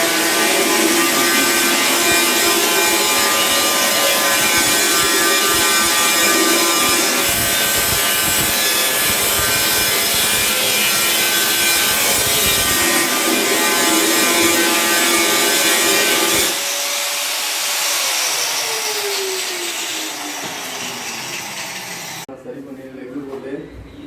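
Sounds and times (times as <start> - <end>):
angle grinder grinding metal: 0.0 - 22.2.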